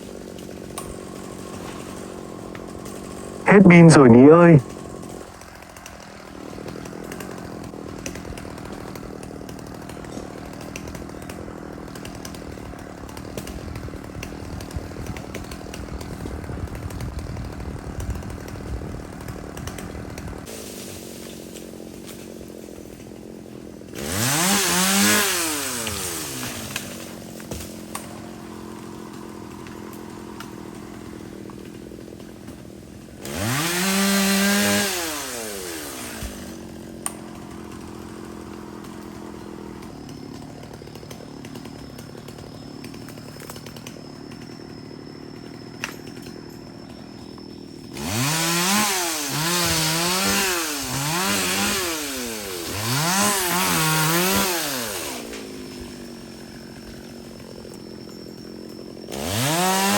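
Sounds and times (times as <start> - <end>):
chainsaw engine idling and revving: 0.0 - 59.9.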